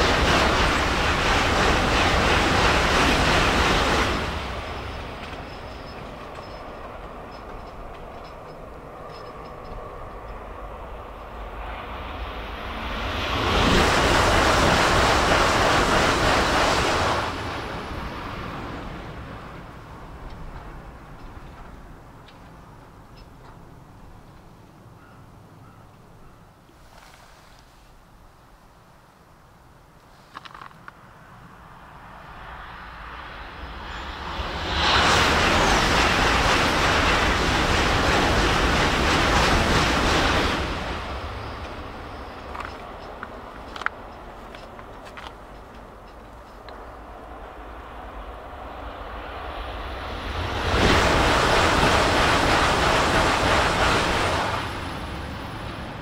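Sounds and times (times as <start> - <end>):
high-speed train rushing past: 0.0 - 25.6, 30.9 - 56.0.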